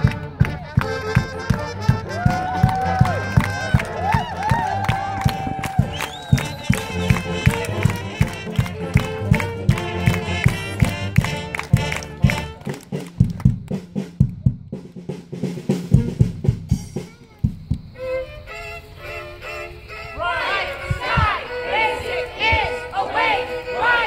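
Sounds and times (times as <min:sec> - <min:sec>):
steady drum beat: 0:00.0 - 0:18.2, 0:20.4 - 0:23.4
band music: 0:00.0 - 0:24.0.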